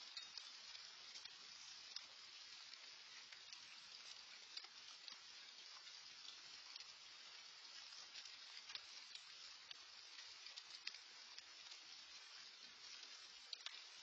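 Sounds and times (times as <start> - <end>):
light rain patter: 0.0 - 14.0
raindrops ticking close by: 0.0 - 14.0.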